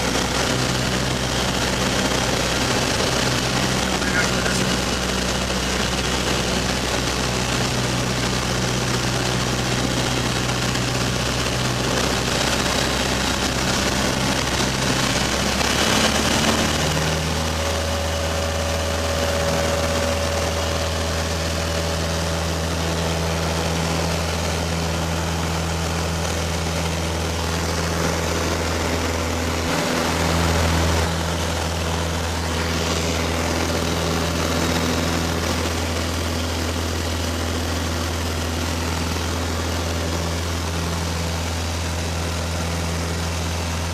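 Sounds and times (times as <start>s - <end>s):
propeller plane engine droning: 0.0s - 43.9s.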